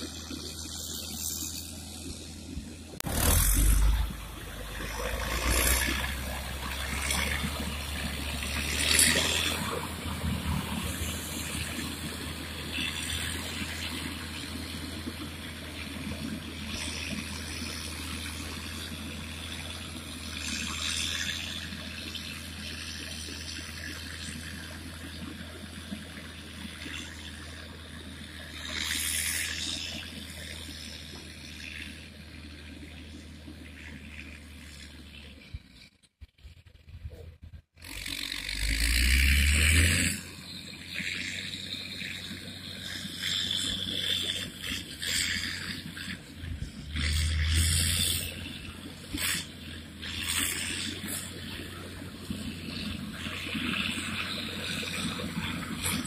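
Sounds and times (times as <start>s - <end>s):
diesel engine running: 0.0s - 35.3s, 37.5s - 56.0s.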